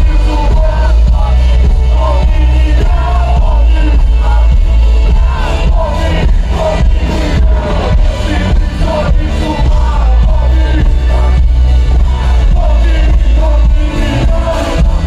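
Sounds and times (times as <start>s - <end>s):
hip-hop music with heavy bass: 0.0s - 15.0s
person singing: 0.0s - 15.0s.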